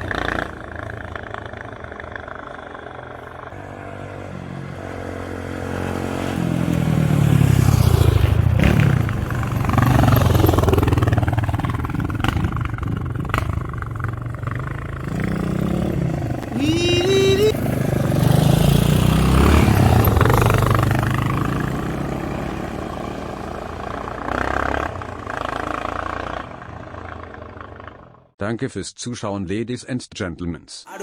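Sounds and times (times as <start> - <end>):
motorcycle engine running: 0.0 - 28.3.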